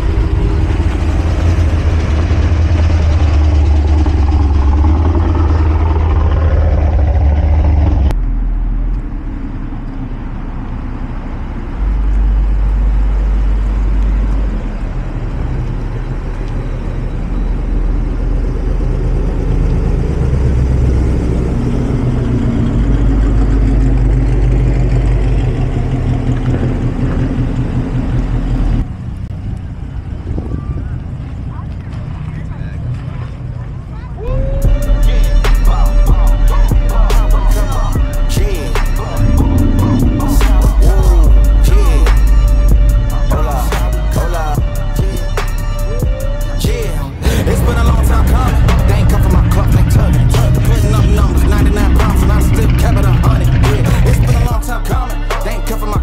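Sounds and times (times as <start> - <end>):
car engines rumbling: 0.0 - 56.0
cars driving slowly past: 0.0 - 56.0.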